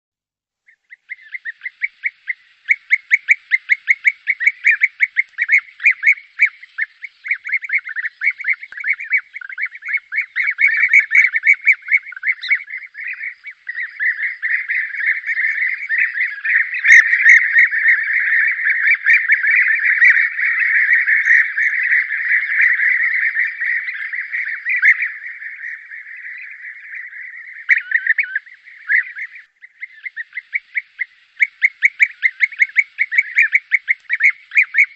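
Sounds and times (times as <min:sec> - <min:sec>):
flock of birds calling: 0:00.7 - 0:34.9.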